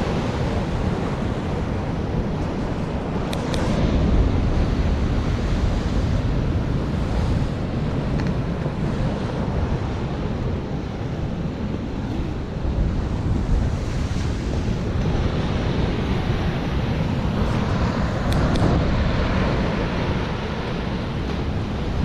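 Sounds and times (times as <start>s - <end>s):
ocean surf washing ashore: 0.0s - 22.0s
steady low rumble: 0.0s - 22.0s
wind buffeting microphone: 0.0s - 22.0s.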